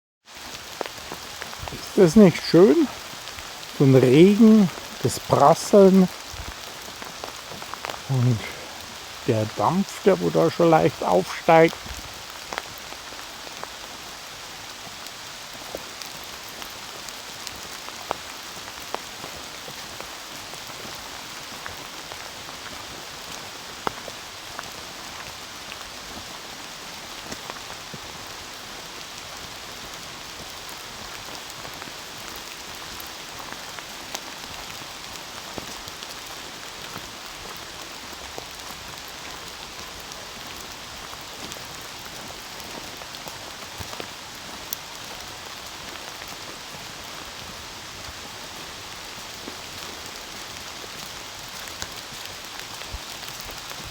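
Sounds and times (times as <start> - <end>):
heavy rain pattering: 0.3 - 53.9.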